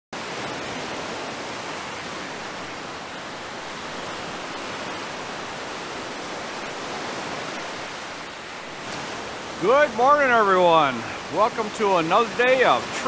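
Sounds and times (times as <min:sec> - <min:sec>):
small waves breaking on shore: 0:00.2 - 0:13.0.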